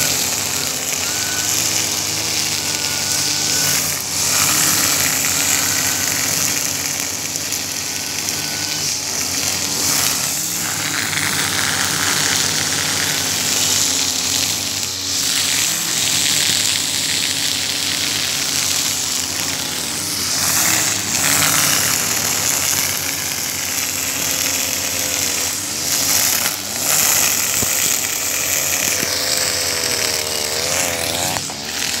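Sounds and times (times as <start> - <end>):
brush cutter cutting grass: 0.0 - 32.0.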